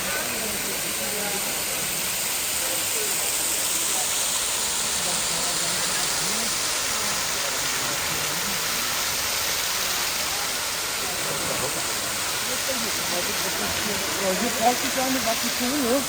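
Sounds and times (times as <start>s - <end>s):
faint voices: 0.0s - 16.0s
waterfall roaring: 0.0s - 16.0s.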